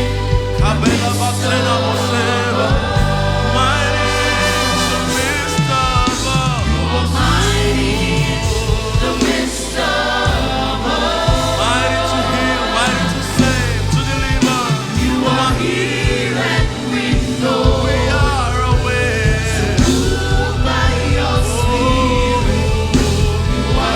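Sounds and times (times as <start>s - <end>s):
choir singing: 0.0s - 23.9s
gospel band playing: 0.0s - 23.9s
held bass notes: 0.0s - 23.9s.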